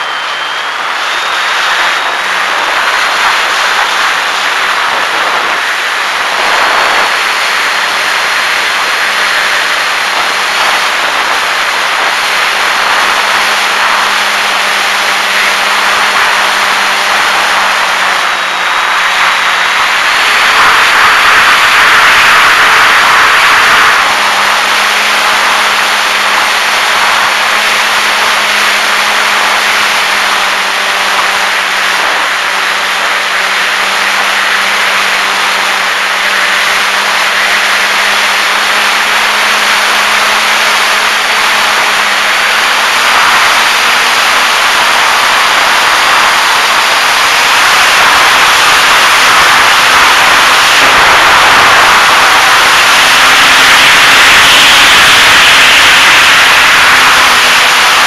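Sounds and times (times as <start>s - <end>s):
model airplane motor humming: 0.0s - 58.0s
wind noise rushing: 0.0s - 58.0s.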